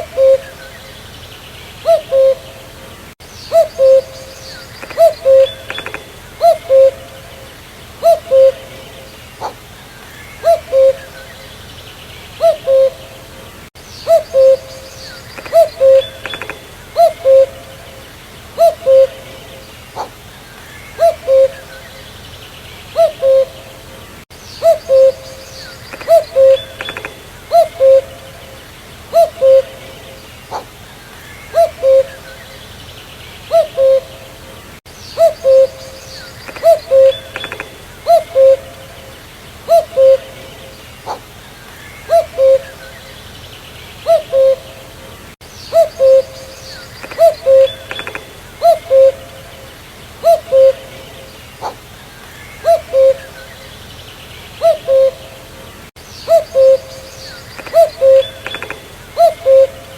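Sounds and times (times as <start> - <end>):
cuckoo calling: 0.0 - 1.1, 1.8 - 11.7, 12.4 - 22.2, 22.9 - 32.7, 33.5 - 43.3, 44.0 - 53.8, 54.6 - 59.9.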